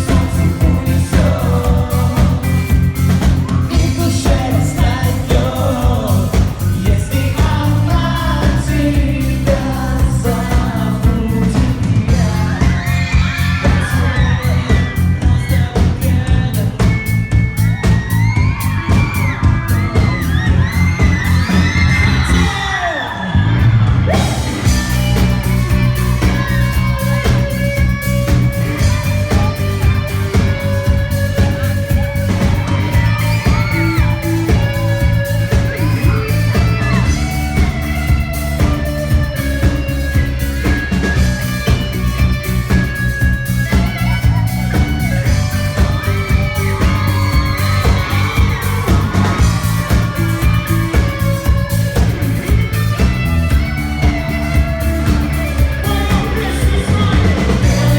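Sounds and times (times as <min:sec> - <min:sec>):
live pop-rock band: 0:00.0 - 0:57.9.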